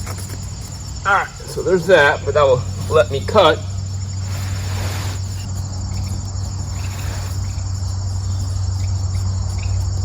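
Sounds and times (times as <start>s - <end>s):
insects trilling: 0.0s - 10.0s
steady low hum: 0.0s - 10.0s.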